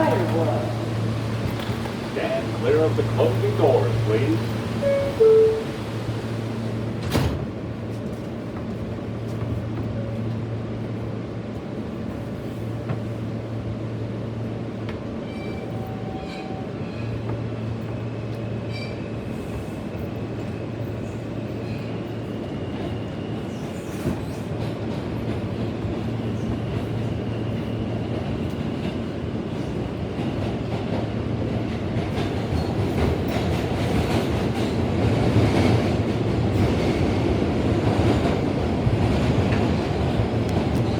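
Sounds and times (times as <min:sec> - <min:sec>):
subway train rumble: 0:00.0 - 0:40.9.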